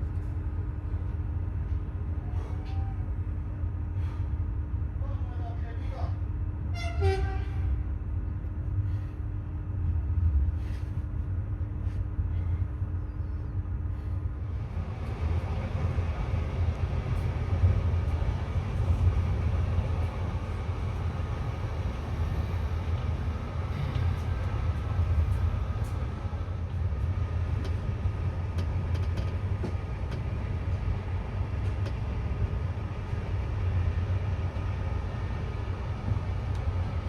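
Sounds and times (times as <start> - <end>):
train rumbling on rails: 0.0 - 37.0.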